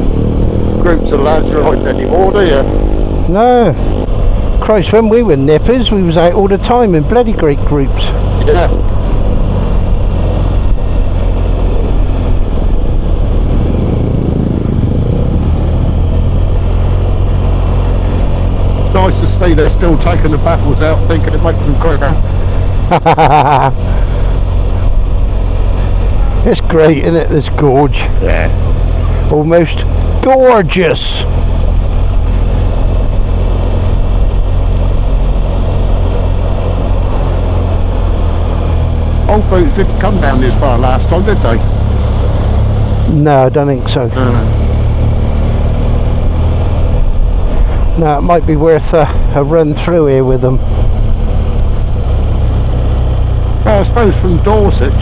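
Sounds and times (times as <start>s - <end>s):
motorcycle engine running: 0.0s - 55.0s
road noise: 0.0s - 55.0s
wind: 0.0s - 55.0s.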